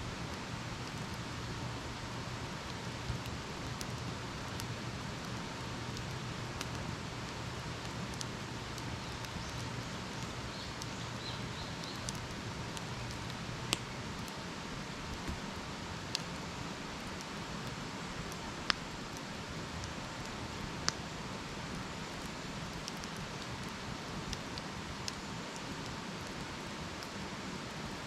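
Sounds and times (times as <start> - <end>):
campfire crackling and popping: 0.1 - 28.0.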